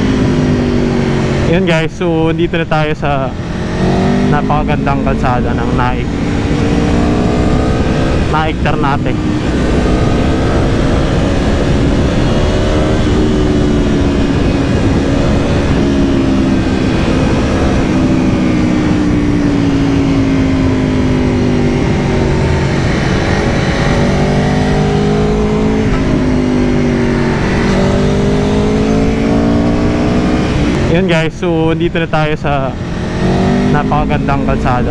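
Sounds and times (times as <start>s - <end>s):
motorcycle engine accelerating: 0.0s - 34.9s
wind noise: 0.0s - 34.9s.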